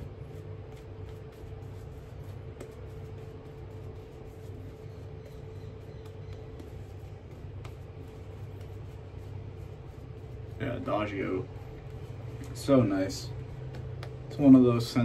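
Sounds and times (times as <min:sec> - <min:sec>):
low room hum: 0:00.0 - 0:15.0
shaving brush swishing: 0:00.0 - 0:15.0.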